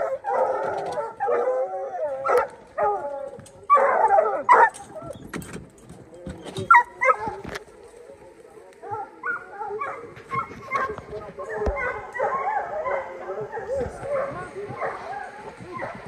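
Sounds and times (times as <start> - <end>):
hounds barking and bawling: 0.0 - 5.3, 6.6 - 7.8, 8.8 - 16.0.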